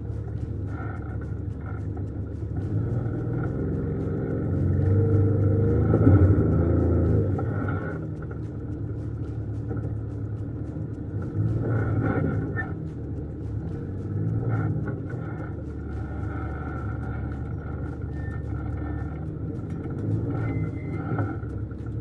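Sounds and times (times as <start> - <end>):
off-road vehicle engine rumbling: 0.0 - 22.0.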